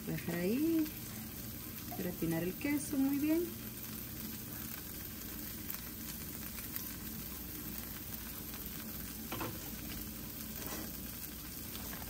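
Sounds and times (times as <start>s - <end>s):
cheese sizzling in a frying pan: 0.0s - 12.0s.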